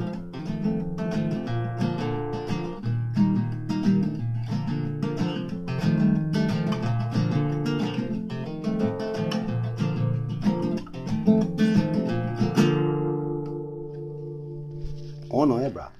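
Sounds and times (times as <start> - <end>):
acoustic guitar playing: 0.0 - 15.9.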